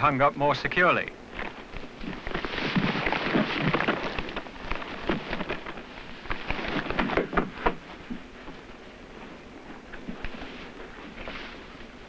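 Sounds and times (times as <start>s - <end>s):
branches cracking and rustling: 1.2s - 12.0s.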